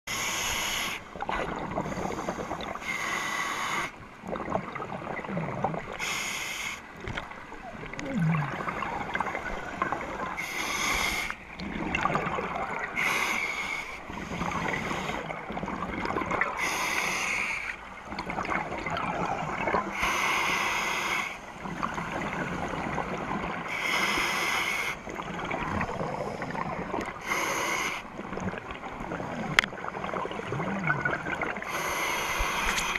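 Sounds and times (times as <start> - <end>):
exhaled bubbles underwater: 1.1 - 6.2, 6.8 - 24.3, 25.0 - 32.9.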